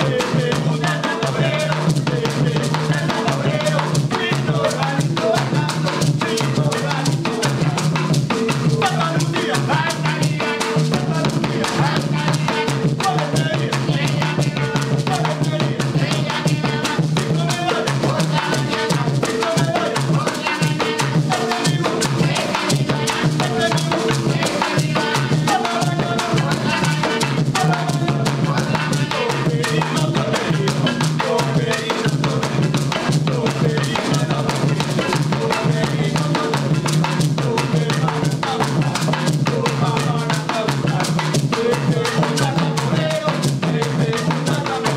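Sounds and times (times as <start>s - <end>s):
drums beating dense rhythm: 0.0s - 44.9s.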